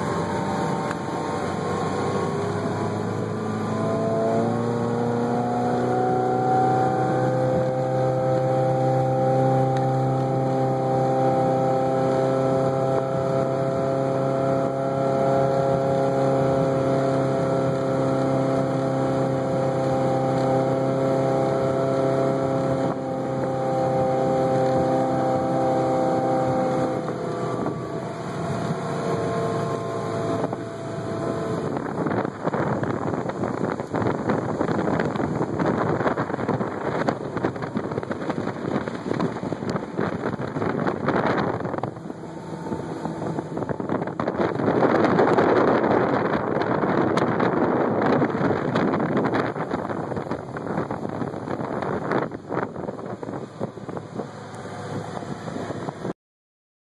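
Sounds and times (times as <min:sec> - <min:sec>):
boat engine running: 0:00.0 - 0:56.1
rushing wind and water: 0:00.0 - 0:56.2.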